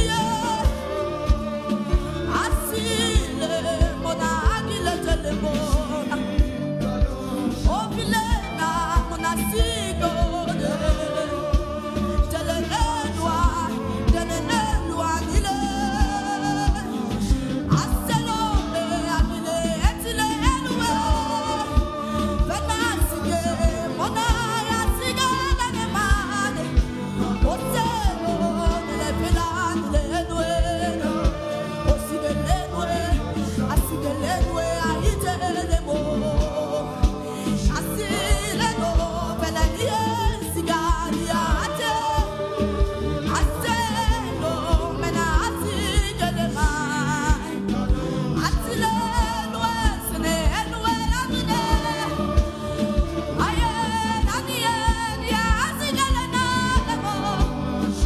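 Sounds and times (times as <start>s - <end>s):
backing music with steady beat: 0.0s - 58.0s
person singing: 0.0s - 58.0s.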